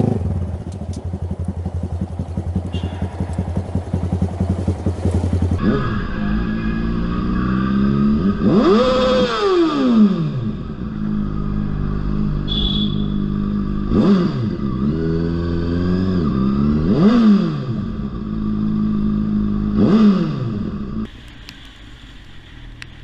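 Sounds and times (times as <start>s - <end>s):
motorcycle engine revving: 0.0s - 21.1s.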